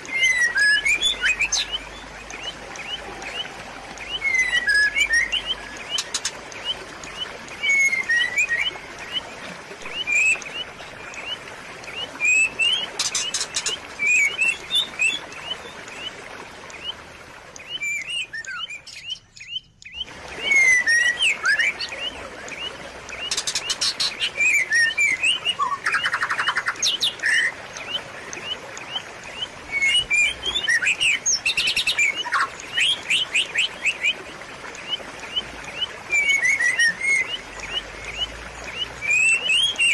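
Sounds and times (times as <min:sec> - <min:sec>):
small birds chirping and trilling: 0:00.0 - 0:39.9
trickling water: 0:00.0 - 0:39.9.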